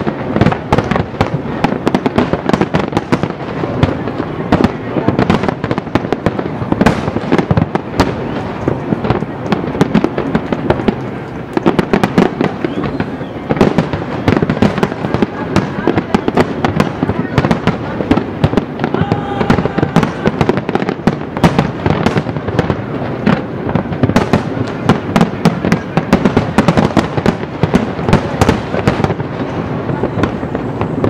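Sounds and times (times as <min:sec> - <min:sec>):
fireworks booming: 0:00.0 - 0:31.0
fireworks crackling: 0:00.0 - 0:31.0.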